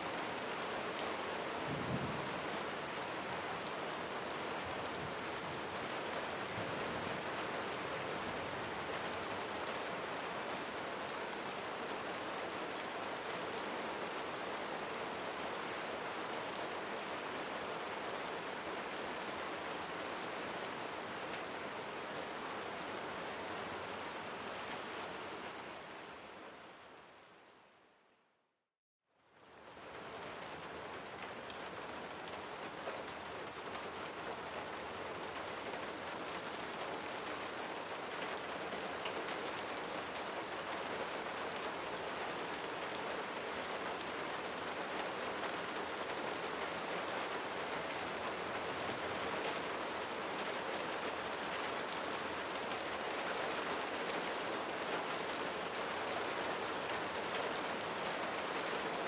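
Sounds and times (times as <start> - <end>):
rain falling on leaves: 0.0 - 28.1, 29.2 - 59.0.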